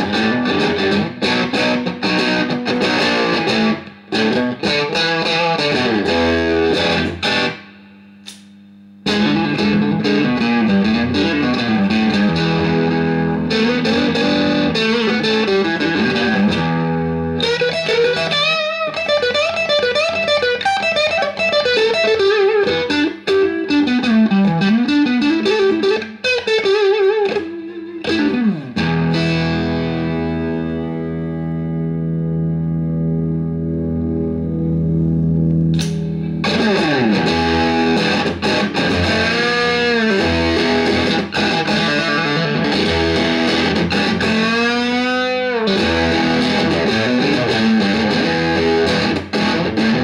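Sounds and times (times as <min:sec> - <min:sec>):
distorted electric guitar: 0:00.0 - 0:50.0.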